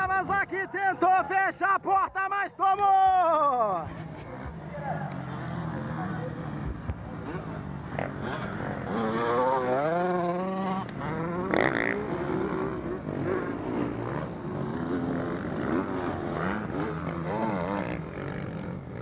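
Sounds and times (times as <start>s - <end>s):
dirt bike engines revving: 3.2s - 19.0s.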